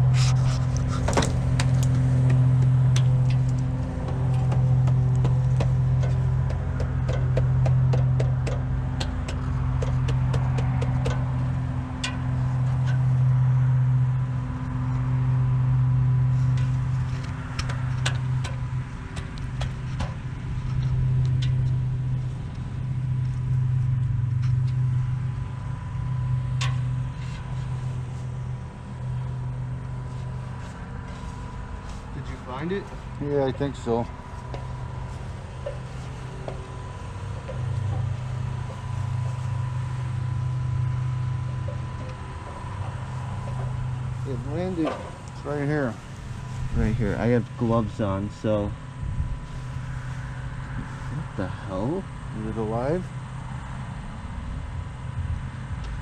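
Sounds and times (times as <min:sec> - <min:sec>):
vent cleaning motor humming: 0:00.0 - 0:53.3.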